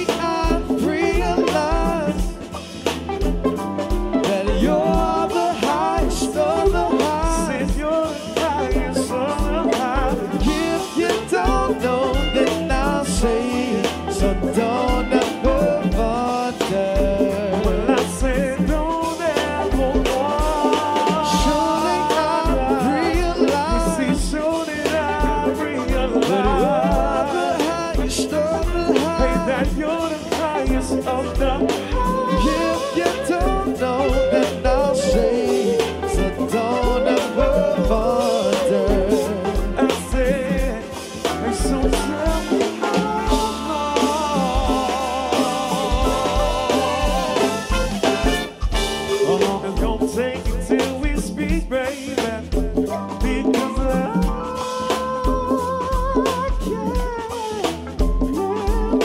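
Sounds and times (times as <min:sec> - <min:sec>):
person singing with vibrato: 0:00.0 - 0:02.9, 0:04.2 - 0:59.0
drum kit kick-drum beat: 0:00.0 - 0:59.0.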